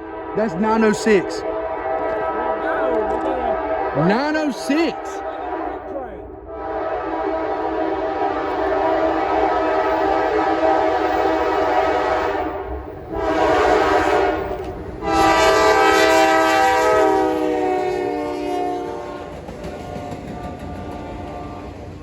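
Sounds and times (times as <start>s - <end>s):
locomotive air horn blasts: 0.0s - 5.9s, 6.5s - 21.7s
train wheels rumbling on rails: 0.0s - 22.0s.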